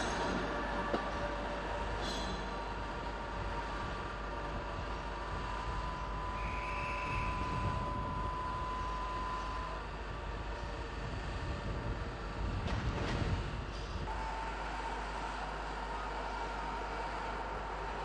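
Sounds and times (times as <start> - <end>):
high steady whine: 0.0 - 18.0.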